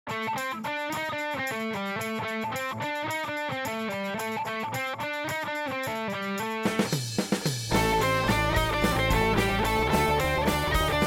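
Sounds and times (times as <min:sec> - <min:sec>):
guitar riff: 0:00.1 - 0:06.9, 0:07.7 - 0:11.0.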